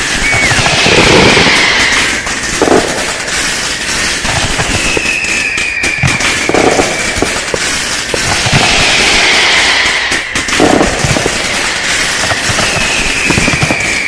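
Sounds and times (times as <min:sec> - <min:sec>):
falling firework whistle: 0:00.0 - 0:14.0
firecrackers crackling and popping: 0:00.0 - 0:14.0.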